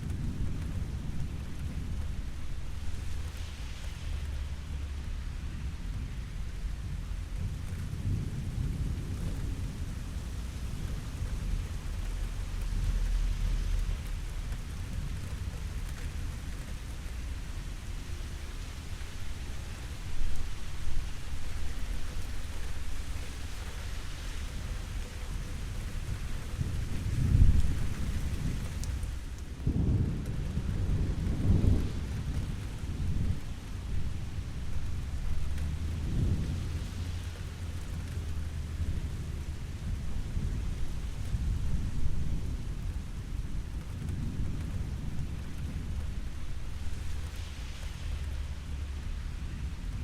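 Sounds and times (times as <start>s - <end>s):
steady rain falling: 0.0s - 50.0s
thunder rumbling: 0.0s - 50.0s.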